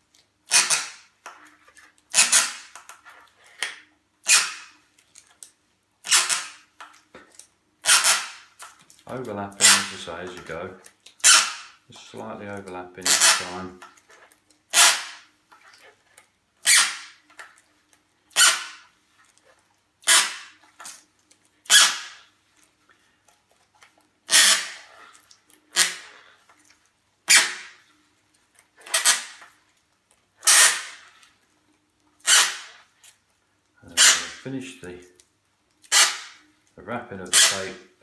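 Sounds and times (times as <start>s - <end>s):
tape squeaking off a roll: 0.4s - 5.0s, 6.0s - 17.7s, 18.3s - 22.5s, 23.4s - 28.1s, 28.7s - 29.8s, 30.4s - 31.4s, 32.2s - 33.2s, 33.8s - 34.9s, 35.8s - 36.6s, 37.2s - 38.0s.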